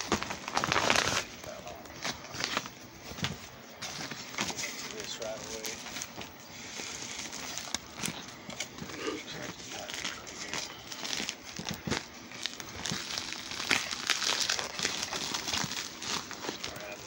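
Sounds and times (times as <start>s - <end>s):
bedspread rustling: 0.0s - 17.0s
paper package crinkling: 0.0s - 17.0s.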